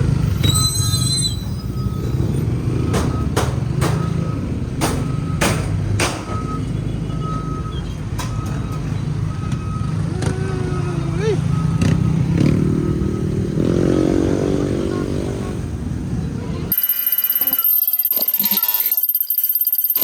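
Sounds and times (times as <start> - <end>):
heavy vehicle engine rumbling: 0.0 - 16.8
street traffic: 0.0 - 20.0
reversing alarm beeping: 0.3 - 14.0, 16.7 - 20.0.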